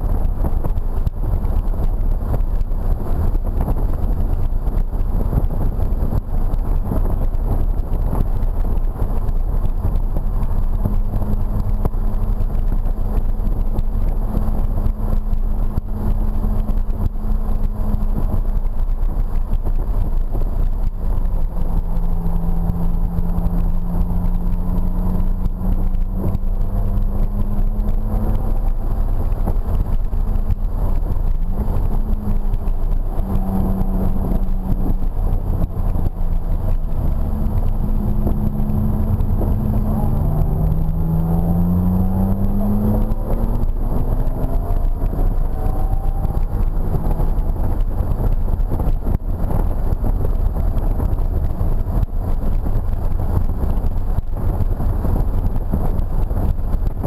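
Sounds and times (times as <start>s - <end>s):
car engine from inside cabin: 0.0s - 57.0s
road and tyre noise: 0.0s - 57.0s.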